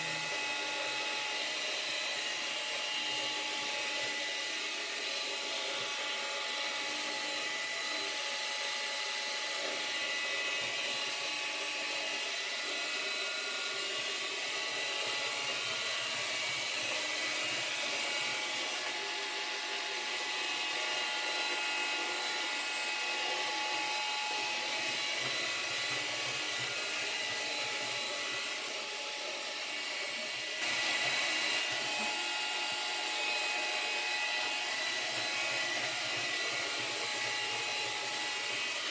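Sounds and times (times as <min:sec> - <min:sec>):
robot vacuum cleaner whine: 0:00.0 - 0:38.9.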